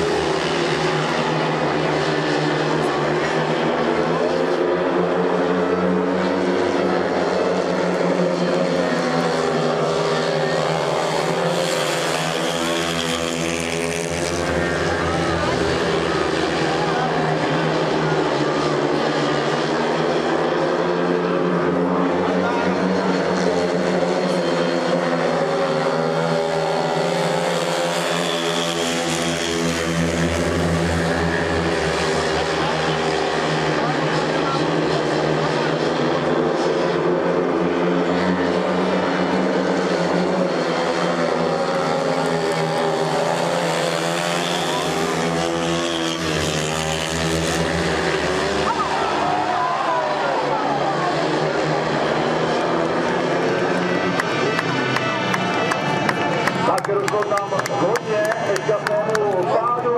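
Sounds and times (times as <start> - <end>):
racing motorcycle engines droning: 0.0 - 59.9.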